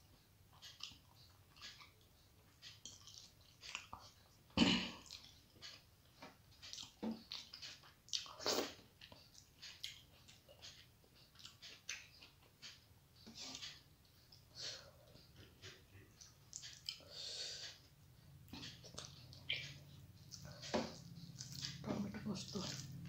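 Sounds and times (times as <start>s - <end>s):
person chewing with wet smacks: 0.1s - 14.5s, 15.1s - 17.9s, 18.5s - 23.0s.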